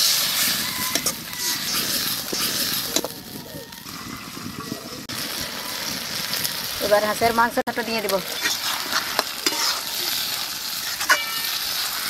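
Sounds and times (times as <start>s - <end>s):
spice paste sizzling in a wok: 0.0s - 4.5s, 5.1s - 12.0s.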